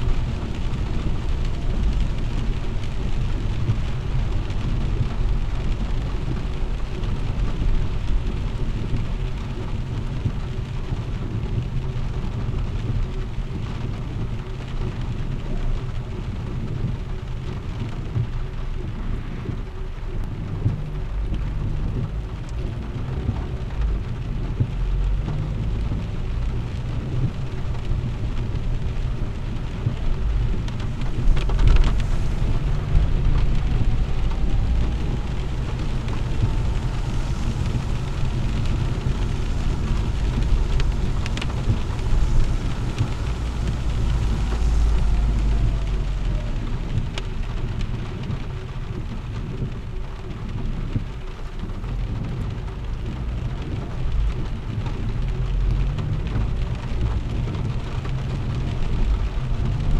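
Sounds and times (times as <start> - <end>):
heavy rain on car roof: 0.0 - 59.9
low road rumble: 0.0 - 59.9
tyres hissing on wet road: 0.0 - 59.9.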